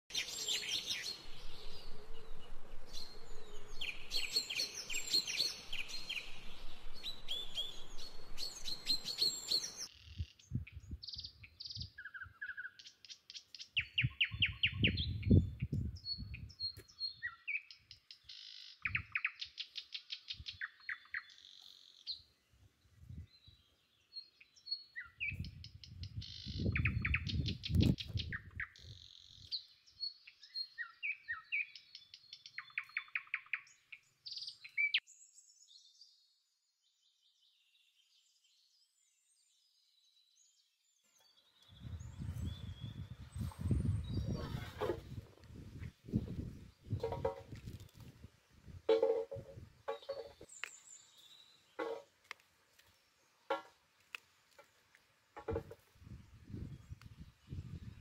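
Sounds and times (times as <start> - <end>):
small birds chirping and trilling: 0.1 - 58.0.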